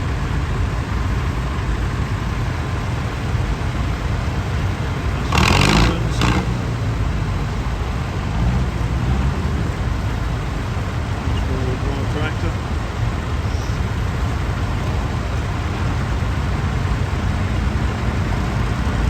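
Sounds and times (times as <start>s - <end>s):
tractor engines rumbling: 0.0s - 19.0s
loud rushing noise: 1.7s - 19.0s.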